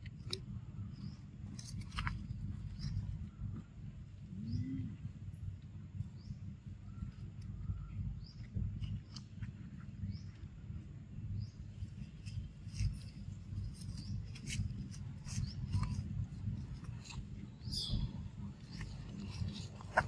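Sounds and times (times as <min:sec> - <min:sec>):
low rumble on microphone: 0:00.0 - 0:20.0.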